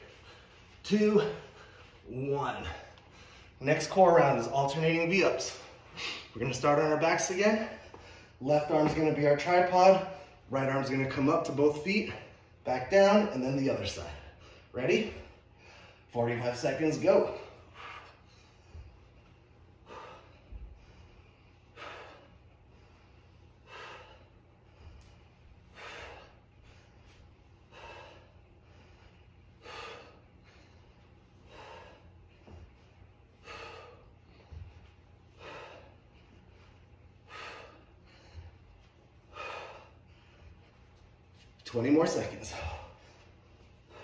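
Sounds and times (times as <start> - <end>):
man breathing hard: 0.0 - 10.5, 12.0 - 44.0.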